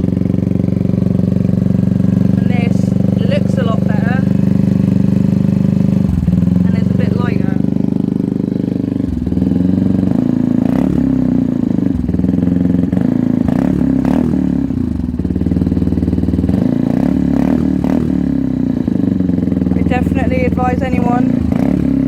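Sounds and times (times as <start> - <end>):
loud motorcycle engine revving: 0.0 - 22.0.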